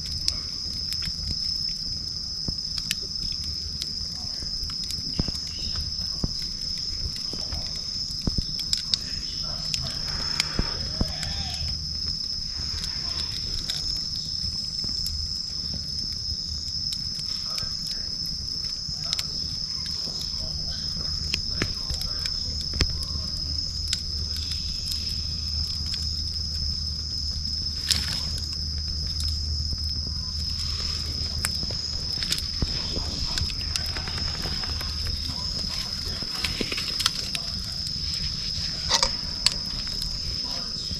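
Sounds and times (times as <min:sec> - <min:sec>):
campfire crackling and popping: 0:00.0 - 0:40.9
insect trilling: 0:00.0 - 0:40.9
low rumble: 0:00.0 - 0:40.9.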